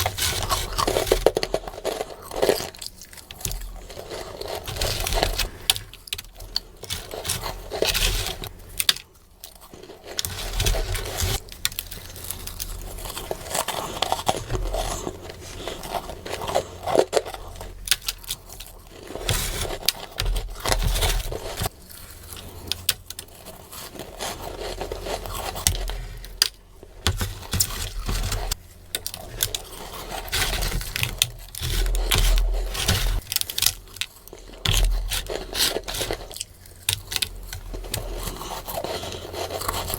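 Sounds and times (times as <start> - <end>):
mouth crunching frost: 0.0 - 8.7, 9.5 - 39.9.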